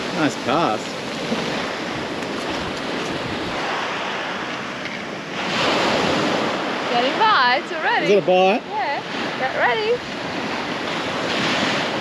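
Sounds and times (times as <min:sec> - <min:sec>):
ocean surf washing onto shore: 0:00.0 - 0:12.0.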